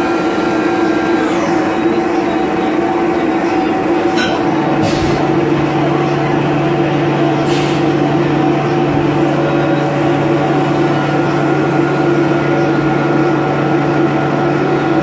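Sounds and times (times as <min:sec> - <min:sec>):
machining centre whining: 0:00.0 - 0:15.0.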